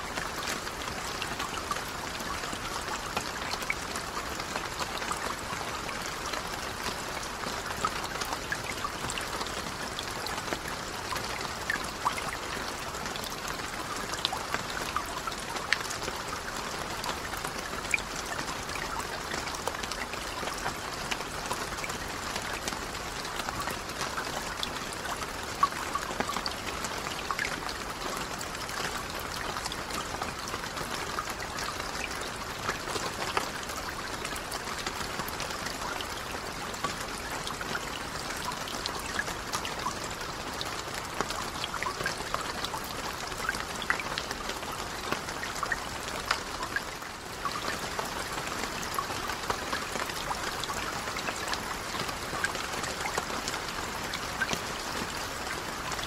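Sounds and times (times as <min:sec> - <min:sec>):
rain falling on lake water: 0:00.0 - 0:56.0.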